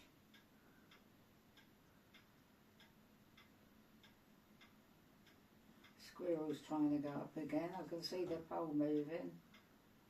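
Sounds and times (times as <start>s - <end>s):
faint low hum: 0.0s - 10.0s
faint regular ticking: 0.0s - 10.0s.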